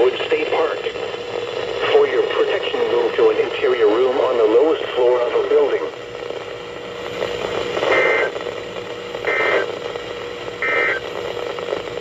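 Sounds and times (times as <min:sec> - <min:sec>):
faint steady hum: 0:00.0 - 0:12.0
radio static hiss: 0:00.0 - 0:12.0.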